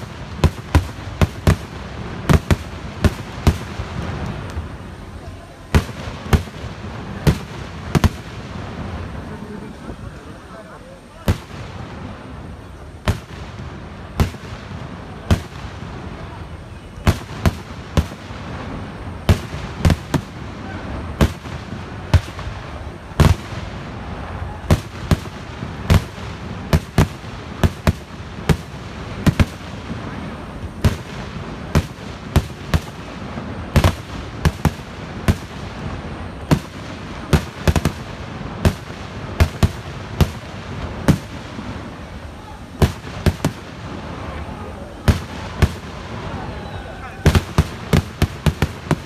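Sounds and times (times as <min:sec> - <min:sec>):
fireworks bangs: 0:00.0 - 0:49.0
steady background noise: 0:00.0 - 0:49.0.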